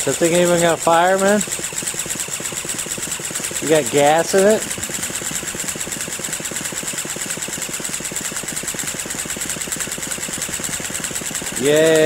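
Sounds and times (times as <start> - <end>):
pulsing high whine: 0.0 - 12.0
small engine cranking: 0.0 - 12.0.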